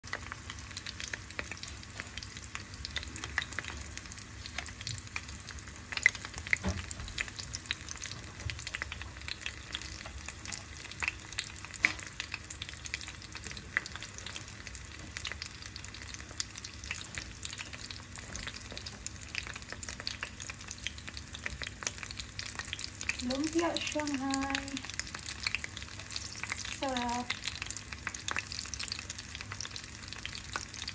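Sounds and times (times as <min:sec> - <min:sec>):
spring rolls sizzling in hot oil: 0:00.0 - 0:30.9.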